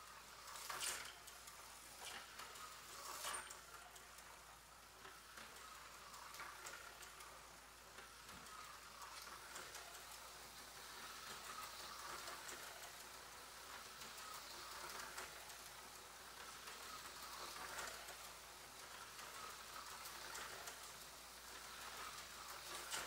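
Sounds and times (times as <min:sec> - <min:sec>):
slot car motor whirring: 0:00.0 - 0:23.0.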